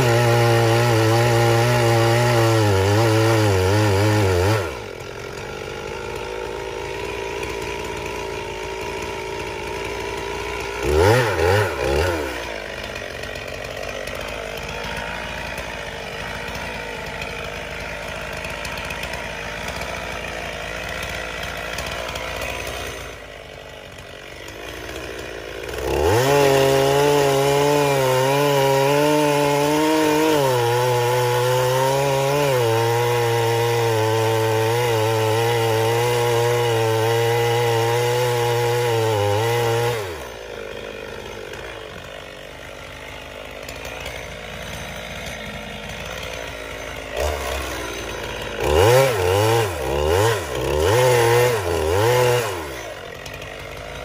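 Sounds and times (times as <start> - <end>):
chainsaw cutting wood: 0.0 - 54.0
chainsaw revving: 0.0 - 54.0.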